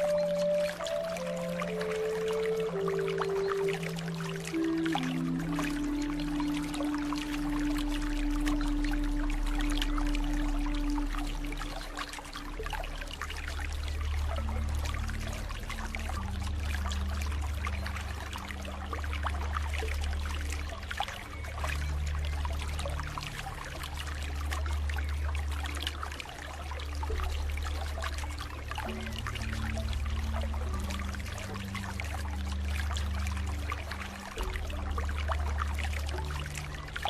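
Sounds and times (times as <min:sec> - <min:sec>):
soft ambient music: 0:00.0 - 0:37.0
water trickling and splashing: 0:00.0 - 0:37.0.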